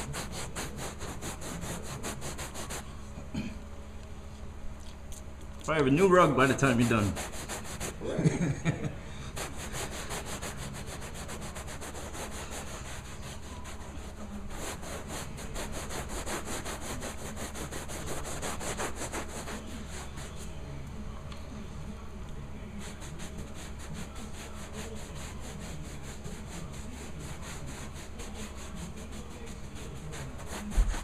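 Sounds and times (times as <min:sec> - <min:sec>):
brush scrubbing carpet: 0:00.0 - 0:02.9, 0:06.3 - 0:08.5, 0:09.3 - 0:20.6, 0:22.6 - 0:31.0.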